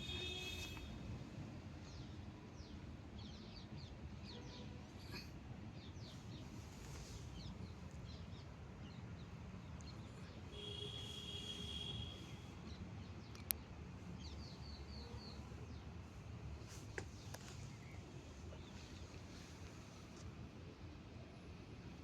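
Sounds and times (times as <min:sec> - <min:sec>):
small birds chirping: 0:01.8 - 0:20.0.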